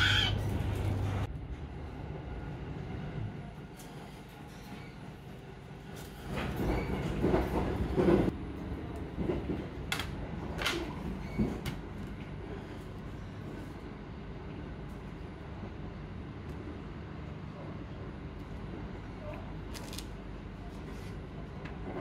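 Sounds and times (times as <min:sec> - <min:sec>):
train carriage rumble: 0:00.0 - 0:22.0.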